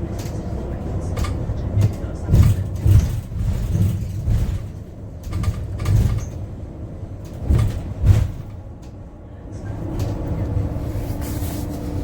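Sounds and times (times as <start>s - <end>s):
bus body knocks and rattles: 0.0s - 10.8s
bus cabin low rumble: 0.0s - 12.0s.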